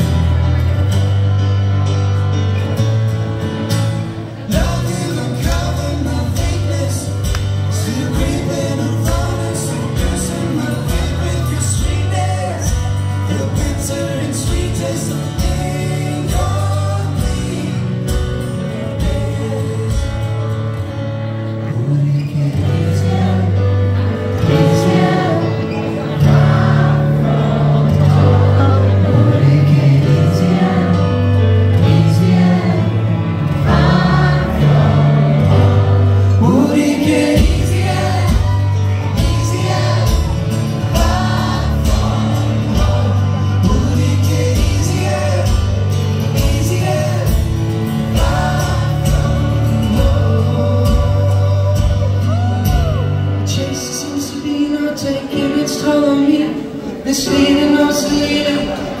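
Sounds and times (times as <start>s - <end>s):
sustained low keyboard notes: 0.0s - 52.1s
keyboard: 0.0s - 59.0s
strummed acoustic guitar: 0.0s - 59.0s
sung vocal harmonies: 4.2s - 20.7s, 21.4s - 59.0s.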